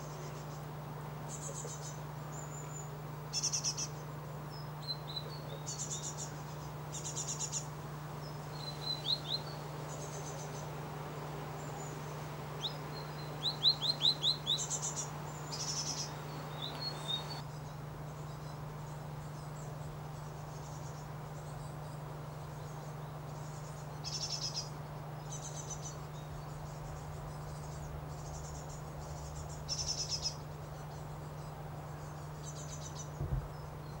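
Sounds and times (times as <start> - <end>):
low steady hum: 0.0 - 34.0
songbirds chirping: 0.0 - 34.0.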